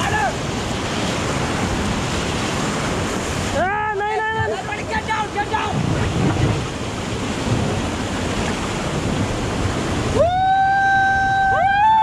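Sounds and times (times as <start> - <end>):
whitewater rushing and splashing: 0.0 - 12.0.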